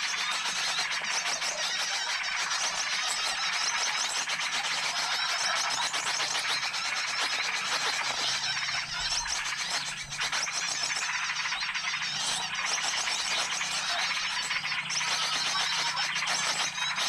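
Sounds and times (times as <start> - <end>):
chorus of small birds chirping: 0.0 - 17.0.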